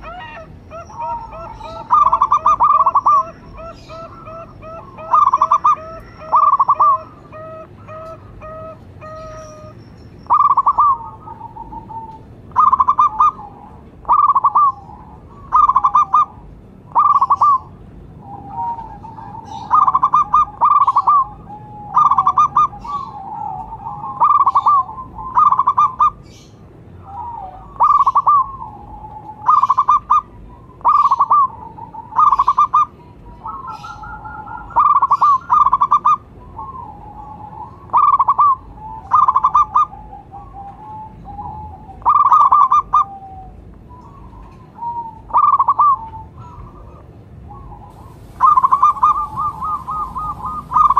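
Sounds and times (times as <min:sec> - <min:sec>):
doves cooing: 0:00.0 - 0:50.9.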